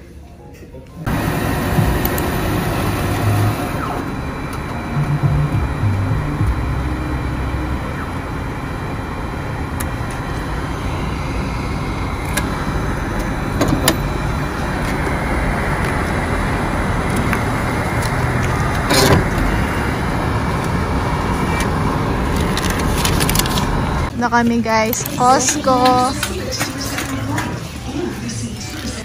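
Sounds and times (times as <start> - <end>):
atm mechanical whir: 1.0 - 29.0.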